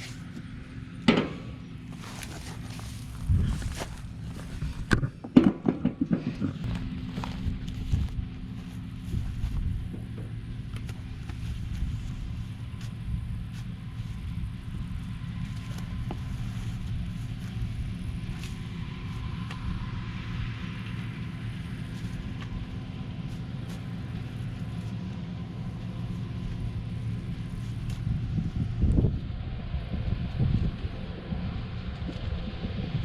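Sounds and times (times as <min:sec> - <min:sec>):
motor rumbling: 0:00.0 - 0:33.0.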